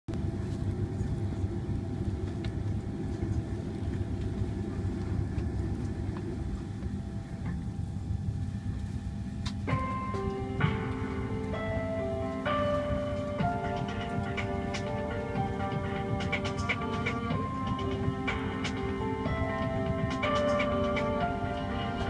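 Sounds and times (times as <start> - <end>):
airliner cabin rumble: 0.1 - 22.0.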